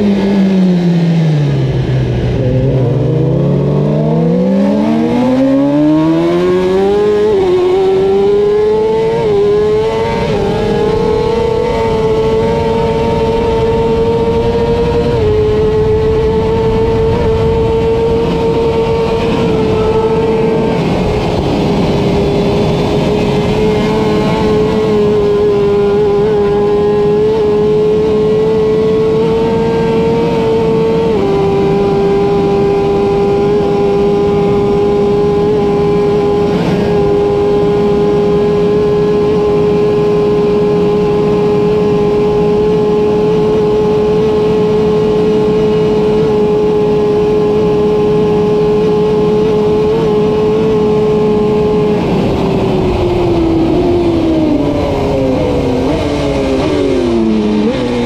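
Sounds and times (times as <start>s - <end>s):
motorcycle engine at full throttle: 0.0s - 58.0s
wind rush: 0.0s - 58.0s.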